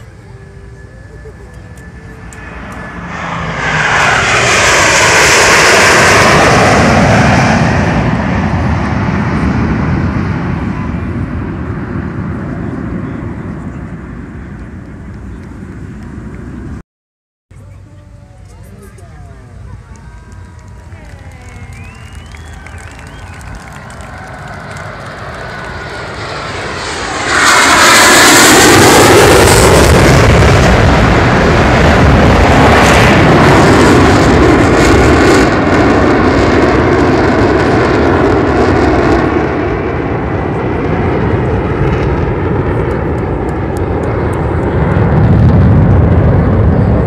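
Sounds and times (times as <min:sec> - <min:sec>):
jets passing low overhead: 0:00.0 - 0:16.8, 0:17.6 - 0:47.0.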